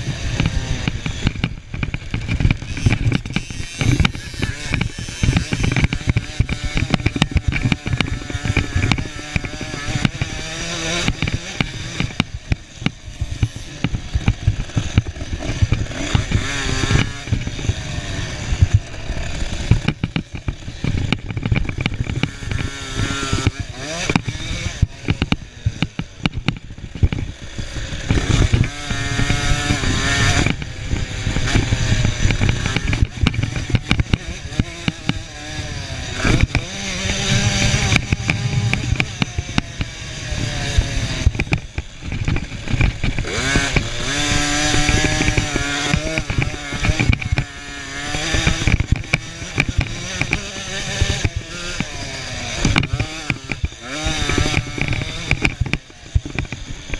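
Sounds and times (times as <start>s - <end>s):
motocross bikes revving: 0.0s - 56.9s.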